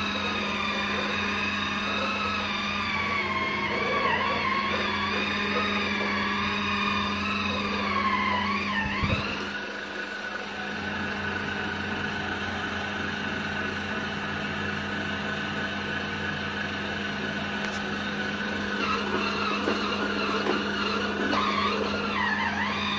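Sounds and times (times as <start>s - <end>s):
scrubber motor whining: 0.0s - 22.9s.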